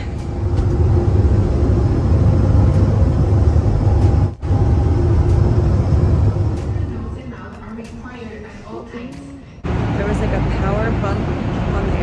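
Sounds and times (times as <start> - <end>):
airliner engines and airflow rumble: 0.0 - 7.3, 9.6 - 12.0.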